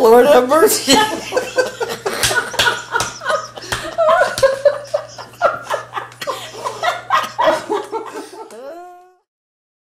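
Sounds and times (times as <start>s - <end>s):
man laughing hard: 0.9s - 9.1s.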